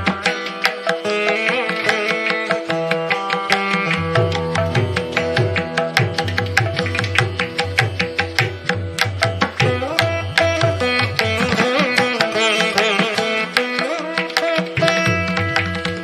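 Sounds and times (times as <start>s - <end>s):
drum beat: 0.0s - 16.0s
melodic instrument with bending notes: 0.0s - 16.0s.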